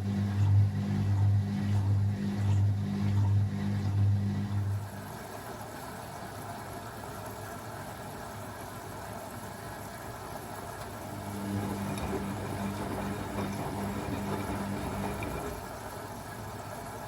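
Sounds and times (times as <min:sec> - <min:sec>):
washing machine drum motor hum: 0:00.0 - 0:17.0.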